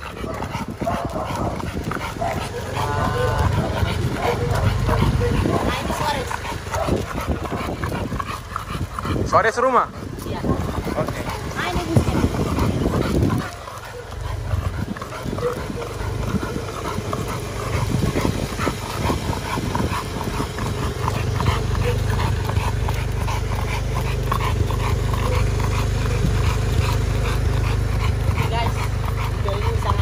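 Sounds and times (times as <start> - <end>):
dog panting hard: 0.0 - 30.0
steady low rumble: 0.0 - 30.0.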